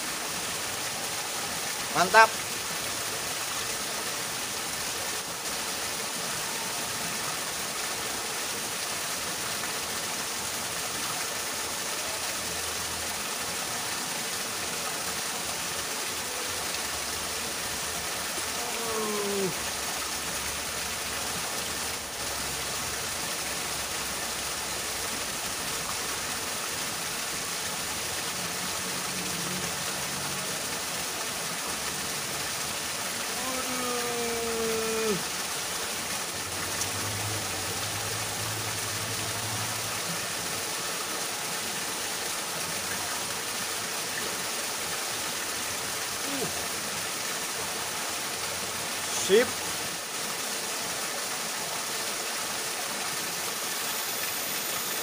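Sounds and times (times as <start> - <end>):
river flowing: 0.0 - 55.0.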